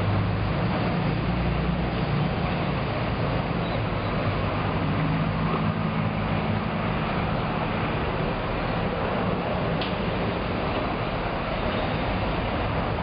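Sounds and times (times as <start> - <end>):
harbour noise: 0.0 - 13.0
low engine rumble: 0.0 - 13.0
traffic noise: 0.0 - 13.0.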